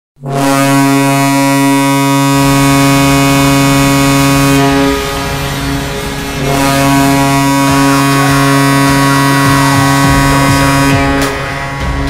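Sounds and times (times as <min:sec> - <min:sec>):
arena goal horn blast: 0:00.2 - 0:12.0.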